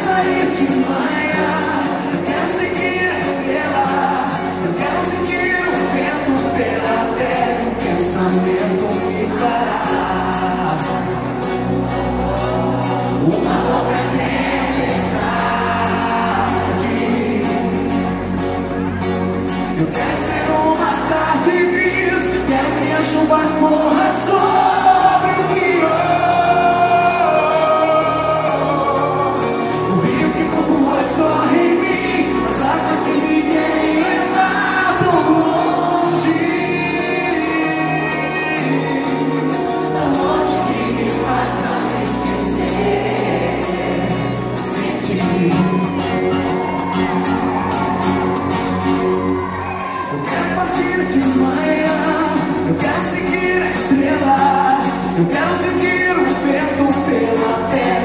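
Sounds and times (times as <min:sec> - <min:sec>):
acoustic guitars: 0:00.0 - 0:58.0
person singing: 0:00.0 - 0:58.0.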